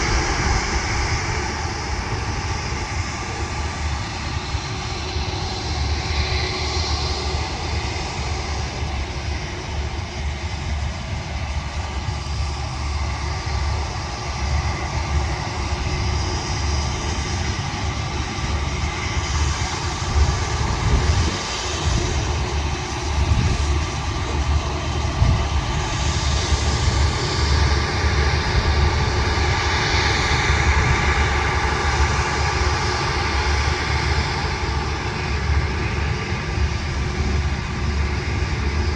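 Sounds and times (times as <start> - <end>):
aircraft engines running: 0.0 - 38.9.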